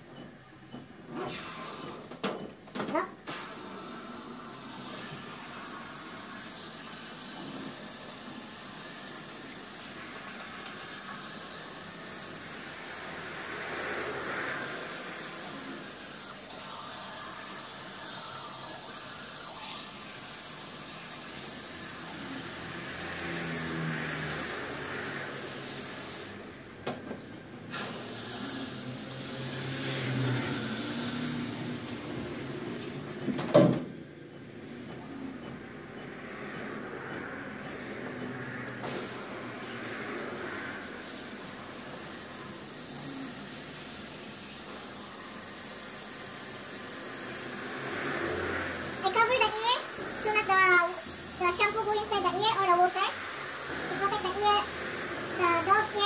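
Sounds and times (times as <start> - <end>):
shower sprayer running: 1.2 - 2.1, 3.2 - 26.8, 27.6 - 33.2, 36.2 - 56.0.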